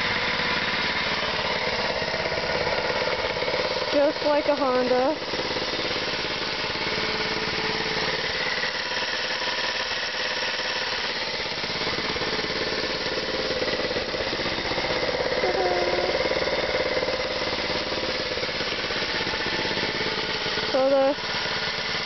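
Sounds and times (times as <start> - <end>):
dirt bike engine idling: 0.0 - 22.0.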